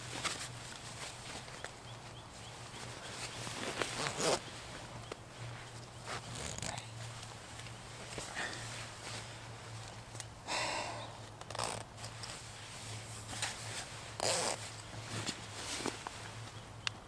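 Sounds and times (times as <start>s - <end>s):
rustling scraping sounds: 0.0s - 10.2s, 11.6s - 16.6s
steady low hum: 0.0s - 17.0s.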